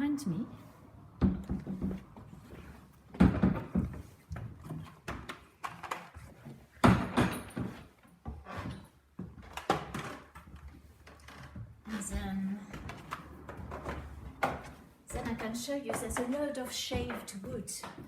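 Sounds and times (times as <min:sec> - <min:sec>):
footsteps going up stairs: 0:01.1 - 0:18.0.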